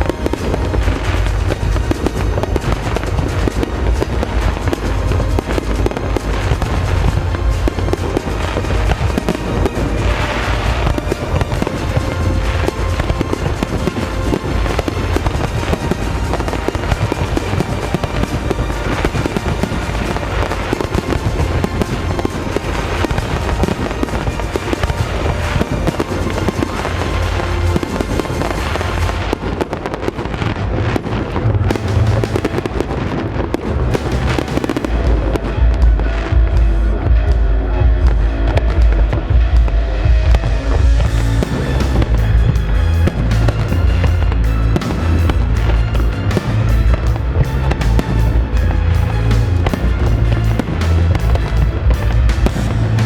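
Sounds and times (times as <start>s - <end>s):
fireworks crackling and banging: 0.0s - 53.0s
low rumble: 0.0s - 53.0s
music playing: 0.0s - 53.0s.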